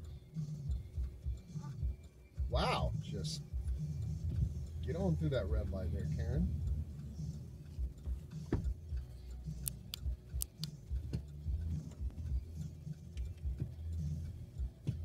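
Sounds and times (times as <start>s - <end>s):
low background rumble: 0.0s - 15.0s
sharp ticks: 0.0s - 15.0s.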